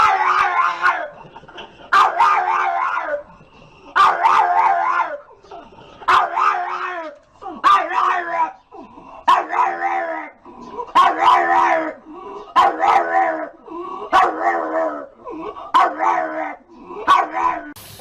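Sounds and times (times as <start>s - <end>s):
dog howling barks: 0.0s - 1.3s, 1.9s - 3.3s, 4.0s - 5.3s, 6.1s - 8.6s, 9.2s - 12.0s, 12.6s - 17.8s.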